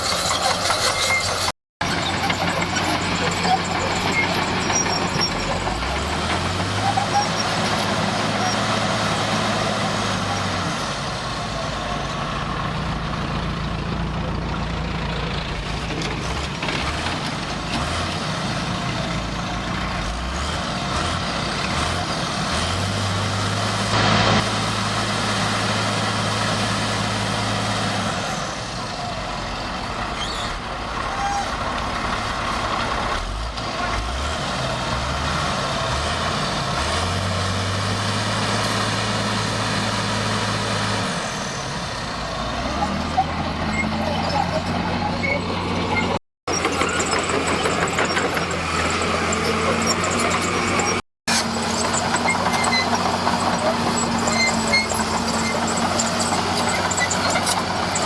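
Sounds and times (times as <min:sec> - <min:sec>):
diesel earthmoving machinery running: 0:00.0 - 0:58.0.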